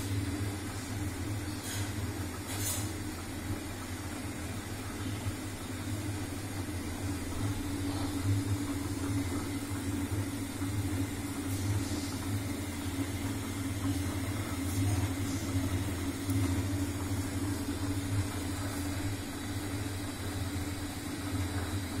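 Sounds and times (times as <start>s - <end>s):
machine motor hum: 0.0s - 22.0s.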